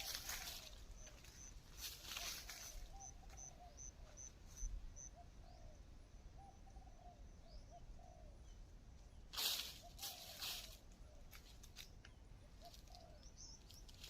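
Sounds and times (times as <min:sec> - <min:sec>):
soft low arched bird notes: 0:00.0 - 0:14.0.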